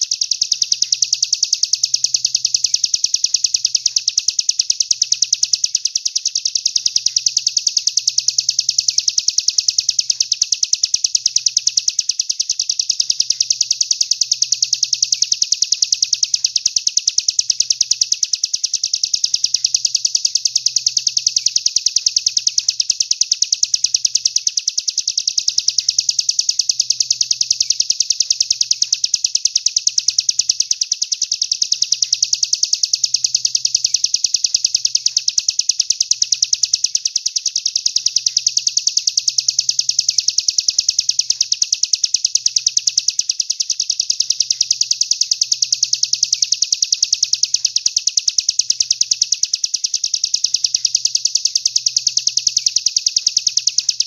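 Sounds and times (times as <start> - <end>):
songbird rapid high-pitched trill: 0.0 - 54.0.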